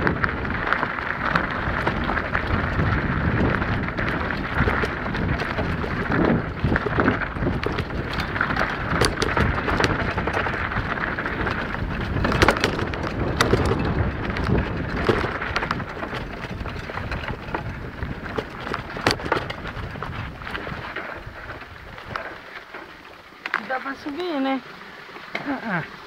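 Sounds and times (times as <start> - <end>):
bike frame rattling: 0.0 - 24.1
tyres crunching over gravel: 0.0 - 25.4.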